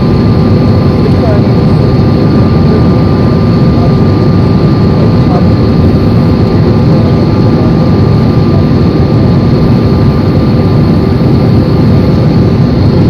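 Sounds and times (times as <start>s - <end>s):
aeroplane engines droning: 0.0s - 13.0s
rushing air: 0.0s - 13.0s.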